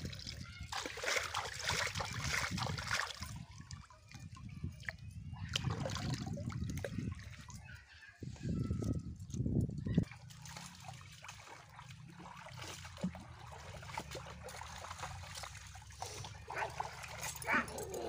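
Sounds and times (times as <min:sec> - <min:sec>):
water splashing in a bowl: 0:00.0 - 0:07.9, 0:08.8 - 0:18.0.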